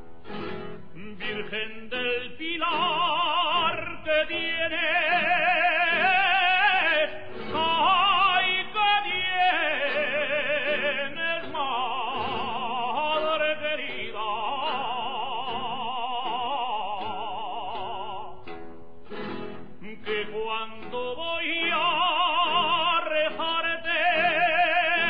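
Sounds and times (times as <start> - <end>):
operatic singing voice: 0.9 - 18.6, 19.7 - 25.0.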